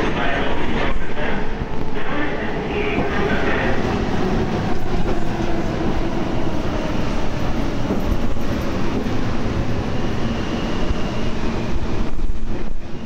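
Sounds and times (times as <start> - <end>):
subway train rumbling and clattering: 0.0 - 13.0.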